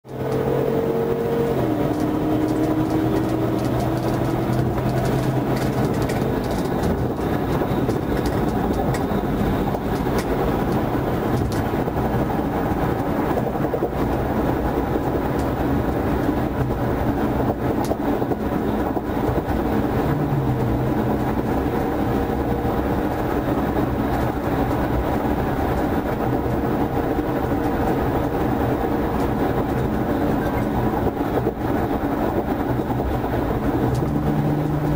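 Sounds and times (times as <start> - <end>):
car engine drone: 0.0 - 34.9
road and wind noise: 0.0 - 34.9.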